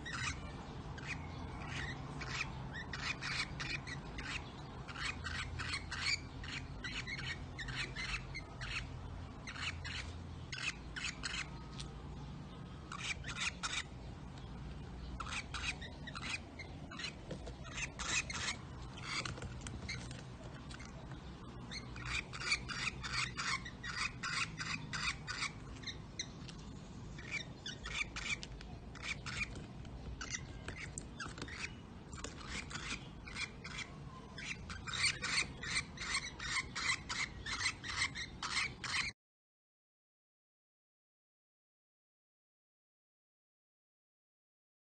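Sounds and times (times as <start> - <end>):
birds chattering: 0.0 - 39.2.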